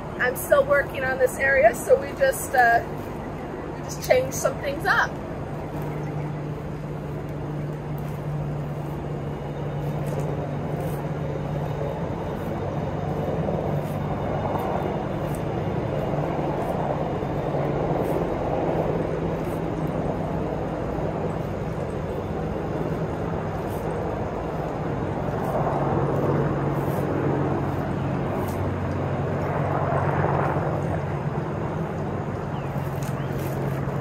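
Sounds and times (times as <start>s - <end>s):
engine drone: 0.0s - 34.0s
low hum: 0.0s - 34.0s.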